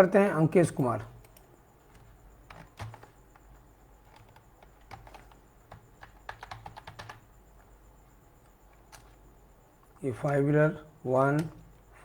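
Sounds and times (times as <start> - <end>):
faint keyboard typing: 0.6 - 12.0.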